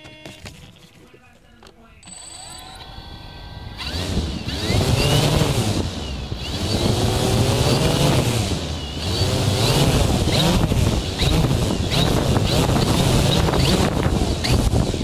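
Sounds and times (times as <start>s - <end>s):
drone propellers whirring: 2.1s - 15.0s.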